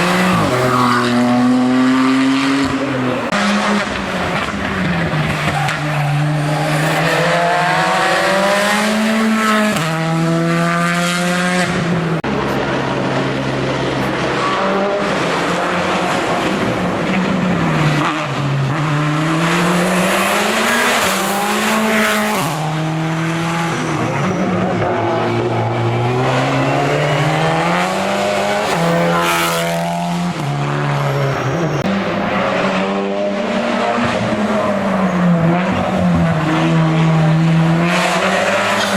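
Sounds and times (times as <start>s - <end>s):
race car engine accelerating: 0.0s - 38.9s.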